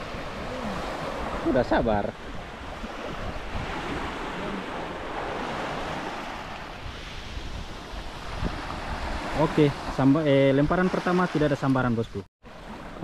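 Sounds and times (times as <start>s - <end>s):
wind buffeting microphone: 0.0s - 10.8s
small waves breaking on sand: 0.0s - 11.7s, 12.5s - 13.0s.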